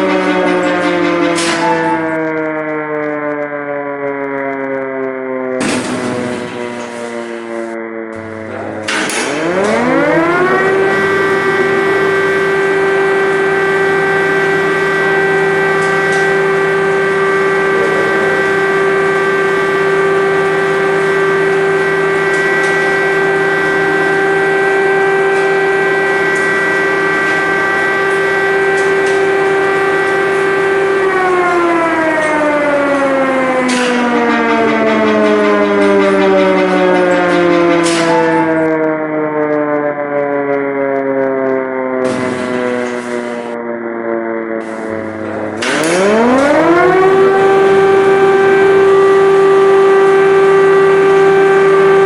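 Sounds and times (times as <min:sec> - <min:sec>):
air-raid siren: 0:00.0 - 0:52.0.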